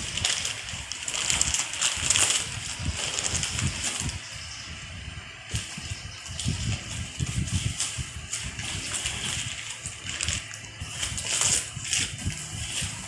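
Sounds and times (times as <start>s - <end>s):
paper and plastic rustling: 0.0s - 4.4s, 5.5s - 13.0s.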